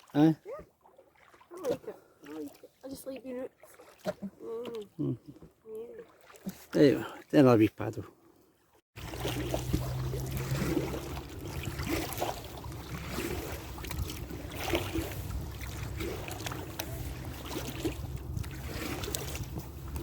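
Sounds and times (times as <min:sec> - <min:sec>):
water splashing around kayak: 0:00.0 - 0:20.0.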